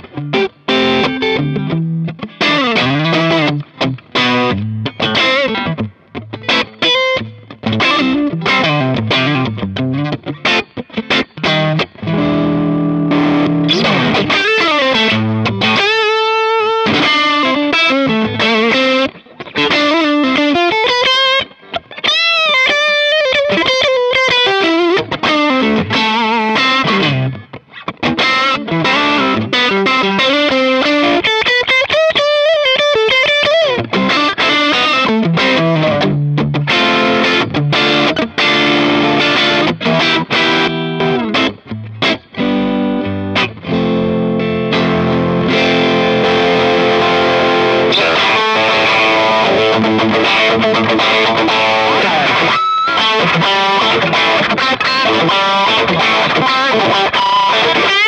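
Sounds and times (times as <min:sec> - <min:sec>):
overdriven electric guitar: 0:00.0 - 0:58.0.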